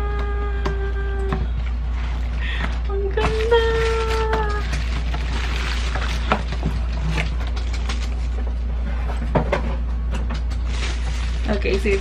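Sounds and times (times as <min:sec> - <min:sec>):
steady low hum: 0:00.0 - 0:12.0
cellophane crinkling: 0:01.0 - 0:09.2, 0:10.4 - 0:12.0
cardboard rustling: 0:01.4 - 0:12.0.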